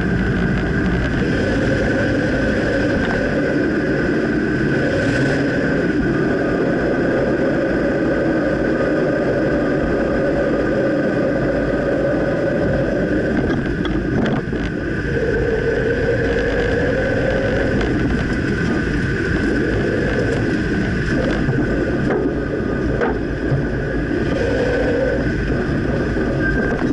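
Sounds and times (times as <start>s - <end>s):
road noise: 0.0s - 26.9s.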